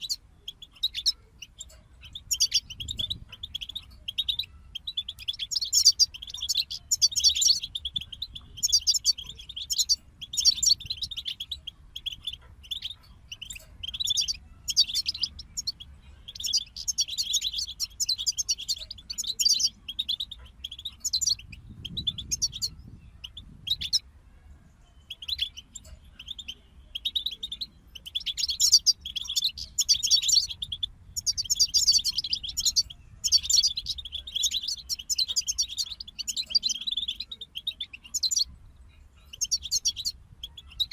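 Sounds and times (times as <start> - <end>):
finch song twittering: 0.0 - 40.9.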